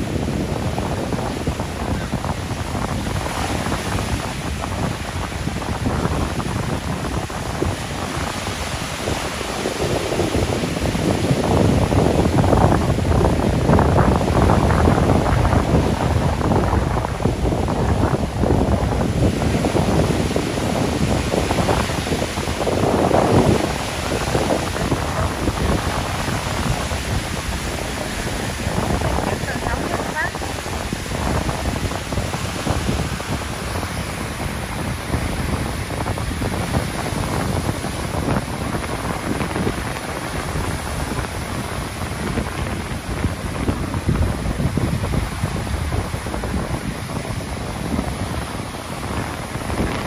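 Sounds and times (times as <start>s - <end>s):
surf breaking on beach: 0.0s - 50.0s
wind on microphone: 0.0s - 50.0s.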